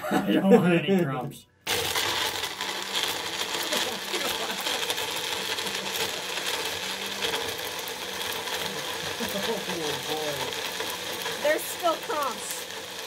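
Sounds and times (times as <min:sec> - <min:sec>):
blender motor whirring: 0:01.6 - 0:13.0.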